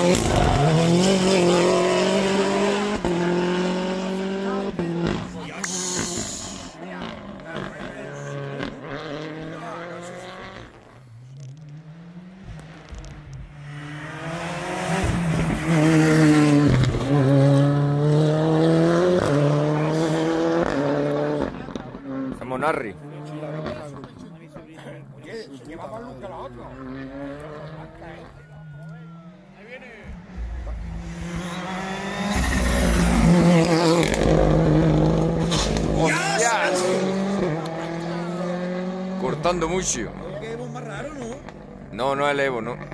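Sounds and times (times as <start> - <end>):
rally car engine at full throttle: 0.0 - 42.9.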